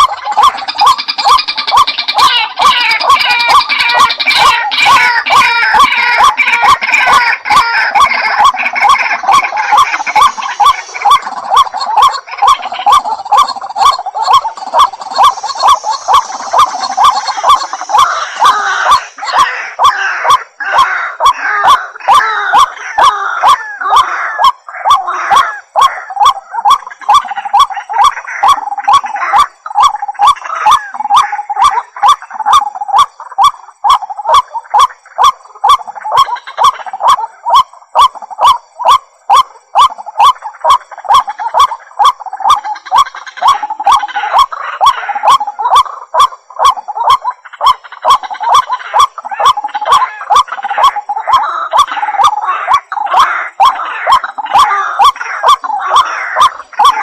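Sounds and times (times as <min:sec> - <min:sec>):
waterhen calling: 0:00.0 - 0:57.0.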